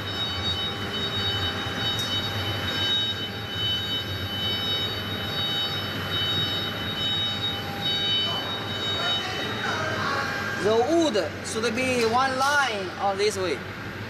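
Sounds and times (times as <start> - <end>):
high-pitched whine: 0.0 - 14.0
low machinery hum: 0.0 - 14.0.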